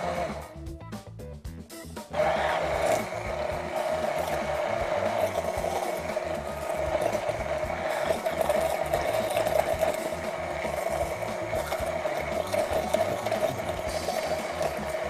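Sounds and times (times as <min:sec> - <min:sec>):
immersion blender running: 0:00.0 - 0:00.6, 0:02.1 - 0:15.0.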